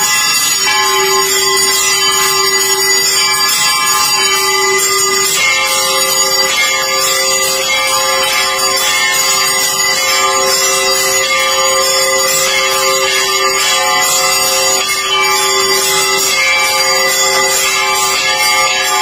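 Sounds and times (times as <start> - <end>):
temple bells ringing rapidly: 0.0 - 19.0.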